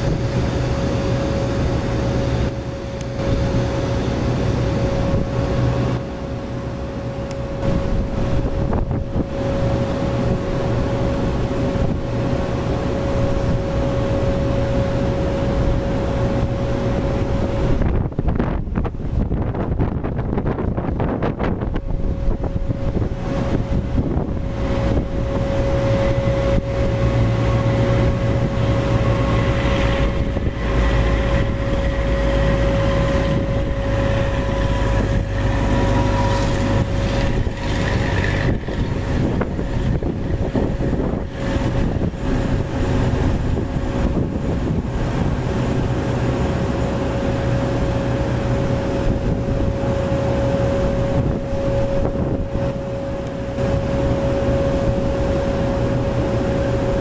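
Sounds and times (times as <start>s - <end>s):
jet engines whining: 0.0s - 57.0s
wind noise on microphone: 0.0s - 57.0s.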